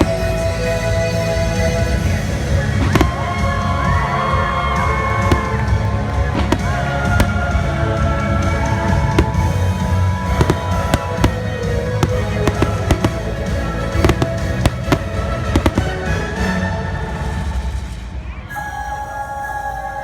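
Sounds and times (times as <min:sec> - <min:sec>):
fireworks bangs: 0:00.0 - 0:16.5
music from loudspeakers: 0:00.0 - 0:20.0.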